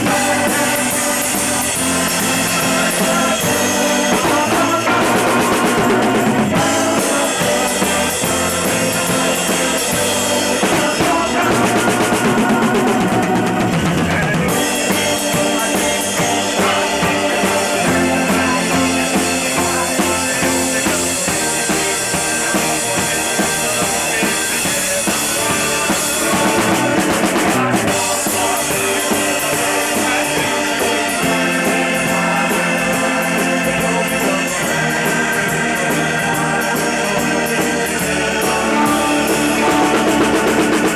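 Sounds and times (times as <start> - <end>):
drum kit beat: 0.0 - 40.9
rock band playing live: 0.0 - 40.9.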